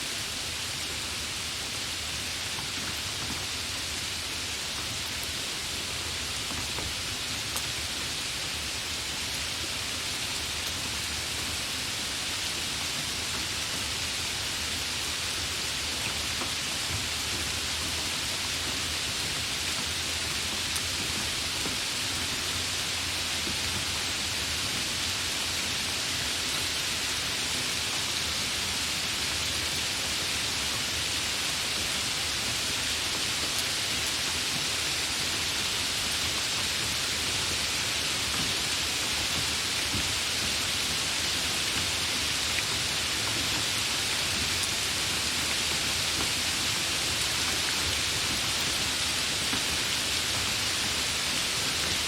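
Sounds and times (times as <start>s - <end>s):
heavy rainfall hiss: 0.0s - 52.0s.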